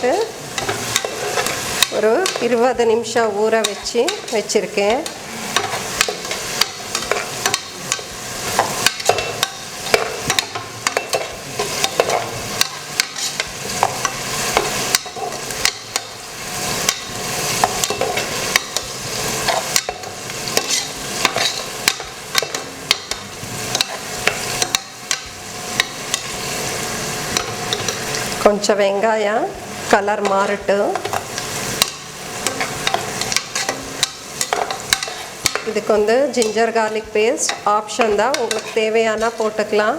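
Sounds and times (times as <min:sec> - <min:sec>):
spatula scraping a pan: 0:00.0 - 0:02.7, 0:03.4 - 0:28.4, 0:29.7 - 0:39.8
onions sizzling in oil: 0:00.0 - 0:39.9.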